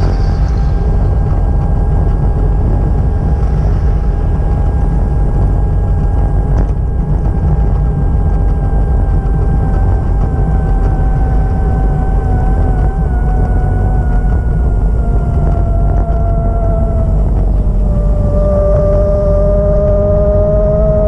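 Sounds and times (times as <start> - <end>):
high whine: 0.0 - 21.0
vehicle low rumble: 0.0 - 21.0.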